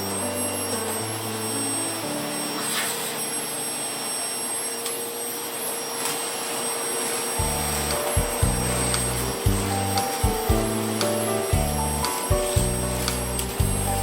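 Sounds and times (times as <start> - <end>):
soft background music: 0.0 - 4.8, 7.4 - 14.0
whooshing motor-like noise: 0.0 - 14.0.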